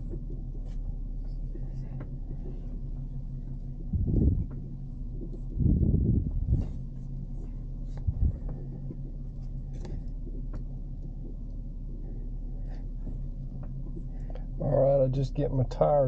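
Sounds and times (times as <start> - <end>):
pickup truck engine running: 0.0 - 16.0.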